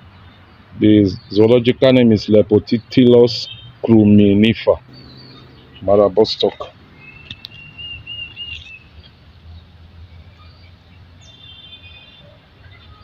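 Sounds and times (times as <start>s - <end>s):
small birds calling: 0.0s - 13.0s.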